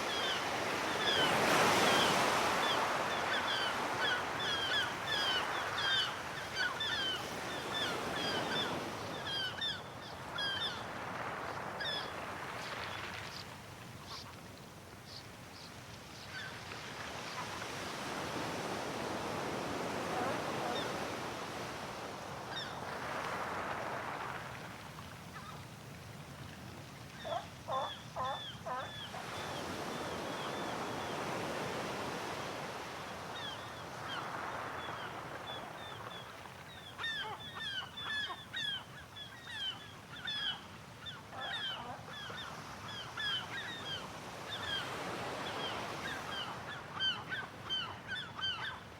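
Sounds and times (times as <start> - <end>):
sea waves washing ashore: 0.0 - 39.3.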